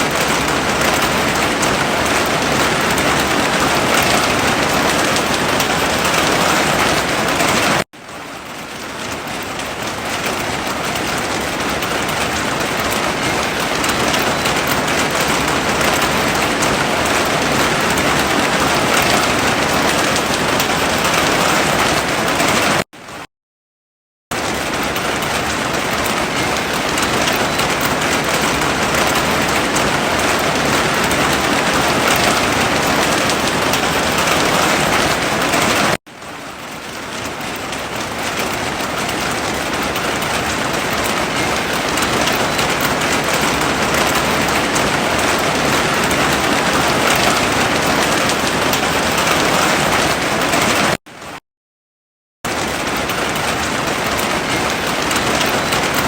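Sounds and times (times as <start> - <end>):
heavy rain falling: 0.0 - 22.8, 24.3 - 51.4, 52.5 - 56.0.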